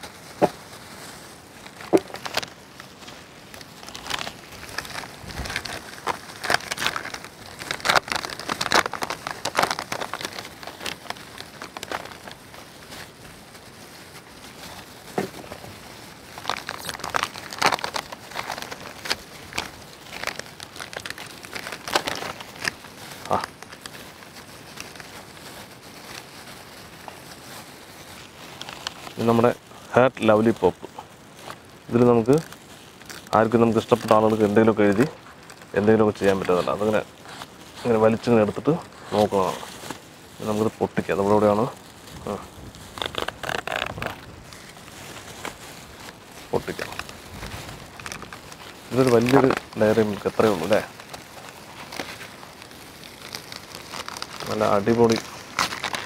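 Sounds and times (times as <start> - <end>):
wrappers crinkling and rustling: 0.0 - 56.0.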